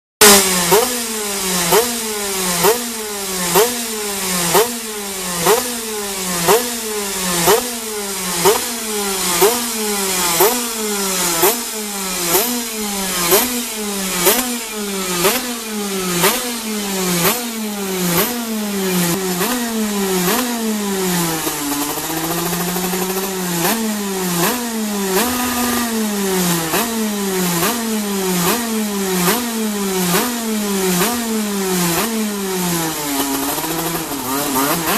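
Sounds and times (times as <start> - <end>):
go-kart engine revving: 0.2 - 34.9.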